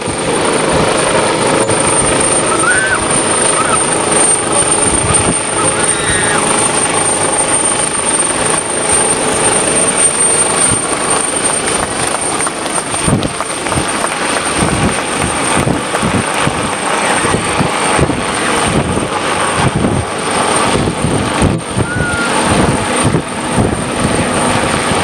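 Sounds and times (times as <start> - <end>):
helicopter flying low: 0.0 - 25.0
pulsing rotor beat: 0.0 - 25.0.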